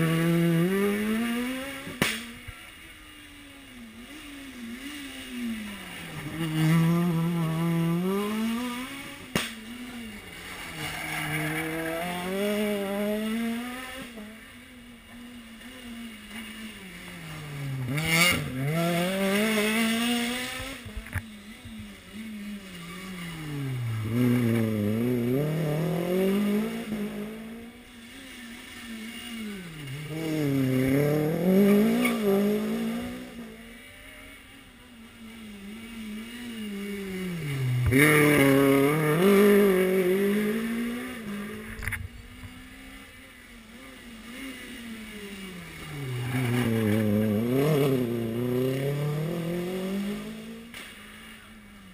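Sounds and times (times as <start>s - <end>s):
rally car engine revving: 0.0s - 51.9s.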